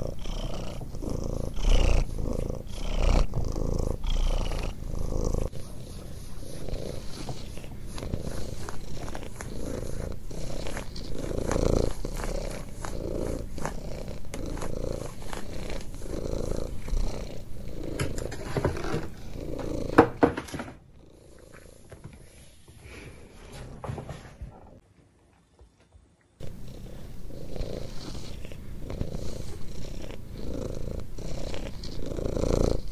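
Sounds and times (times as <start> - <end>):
cat purring loudly: 0.0 - 24.8, 26.4 - 32.9.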